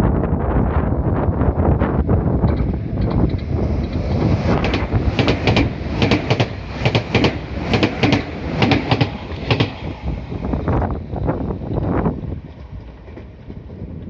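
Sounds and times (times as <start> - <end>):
train rumbling past: 0.4 - 14.0
wheels clacking over rail joints: 2.4 - 14.0.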